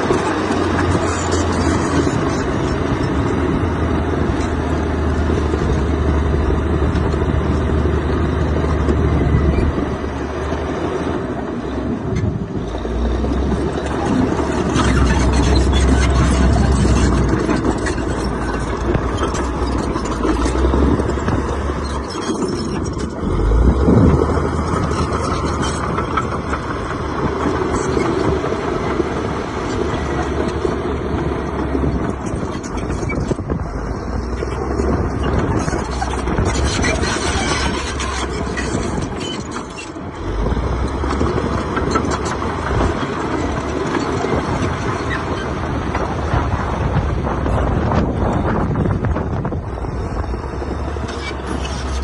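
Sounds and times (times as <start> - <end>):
diesel machinery engine hum: 0.0 - 52.0.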